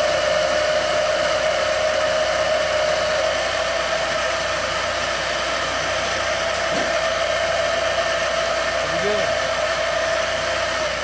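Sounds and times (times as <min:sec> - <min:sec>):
band saw cutting steel: 0:00.0 - 0:11.0.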